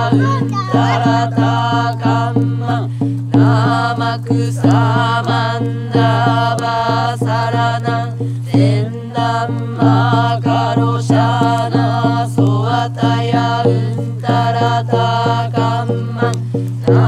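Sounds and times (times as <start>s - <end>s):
person chanting: 0.0s - 17.0s
regular beat: 0.0s - 17.0s.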